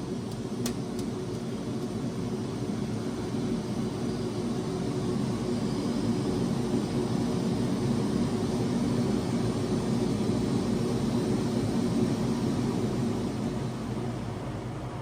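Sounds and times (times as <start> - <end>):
heat pump humming with airflow: 0.0 - 15.0.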